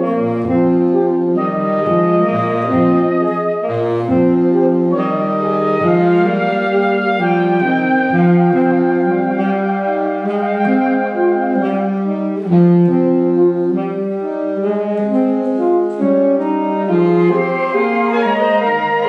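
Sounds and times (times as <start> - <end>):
saxophone quartet playing chords: 0.0 - 19.0.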